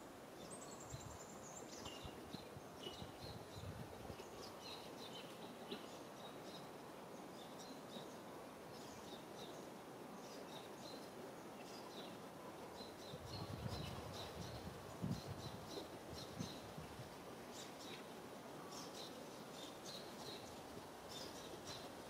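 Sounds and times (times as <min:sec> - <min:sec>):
steady background hiss: 0:00.0 - 0:22.0
small birds chirping: 0:00.4 - 0:22.0.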